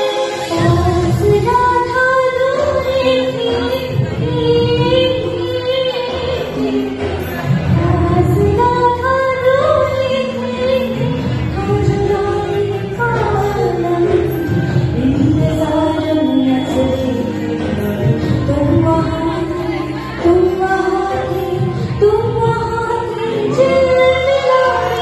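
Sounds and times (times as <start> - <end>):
woman singing into microphone: 0.0 - 25.0.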